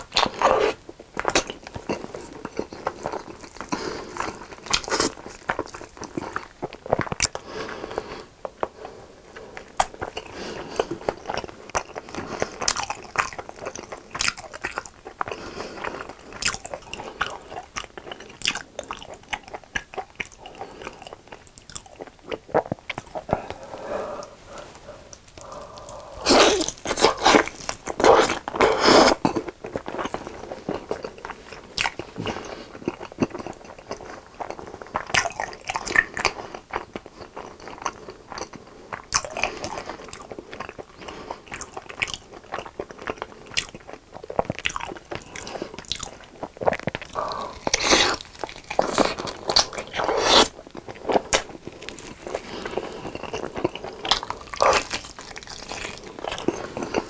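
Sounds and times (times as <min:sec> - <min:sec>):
wet chewing with crunches: 0:00.0 - 0:07.5, 0:08.4 - 0:57.0.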